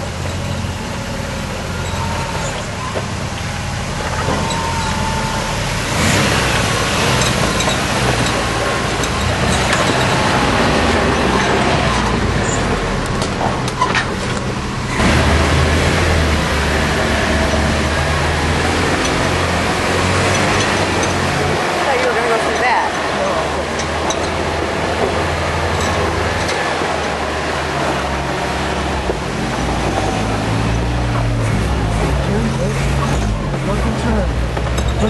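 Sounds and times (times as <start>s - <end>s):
off-road vehicle engine running: 0.0s - 35.0s.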